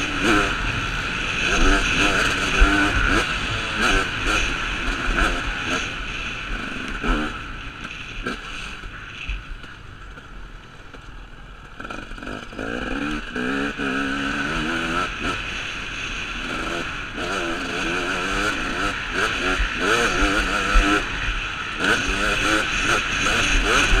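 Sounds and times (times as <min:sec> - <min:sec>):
motocross engine revving: 0:00.0 - 0:08.8, 0:11.7 - 0:24.0
wind and riding noise: 0:00.0 - 0:24.0.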